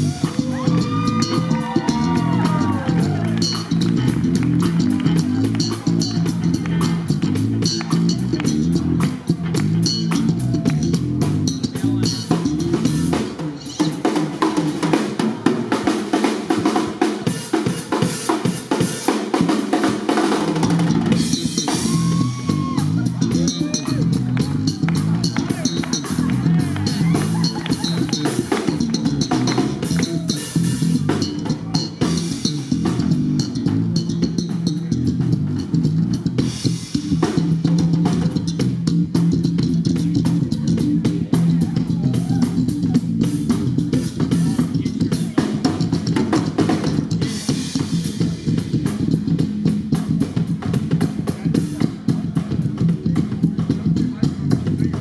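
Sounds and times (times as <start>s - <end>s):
bass guitar line: 0.0s - 55.0s
drum kit steady beat: 0.0s - 55.0s.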